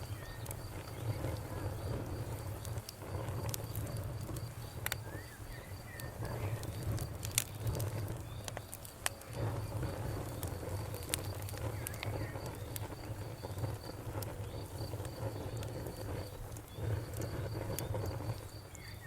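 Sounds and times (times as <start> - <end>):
campfire crackling and popping: 0.0 - 19.0
insect chirping: 0.0 - 19.0.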